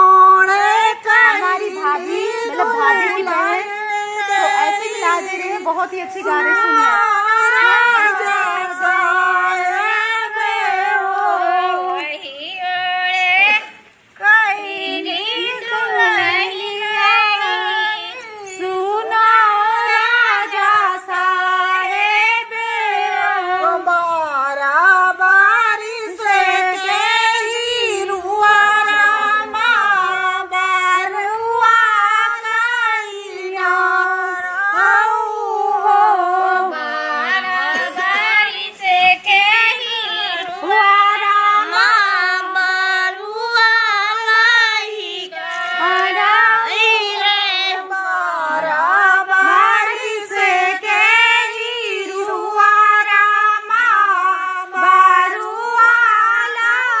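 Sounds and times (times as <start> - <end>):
women singing without instruments: 0.0 - 57.0.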